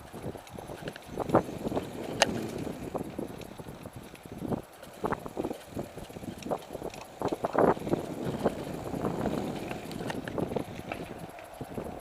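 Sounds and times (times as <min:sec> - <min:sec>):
mountain bike clattering on trail: 0:00.0 - 0:12.0.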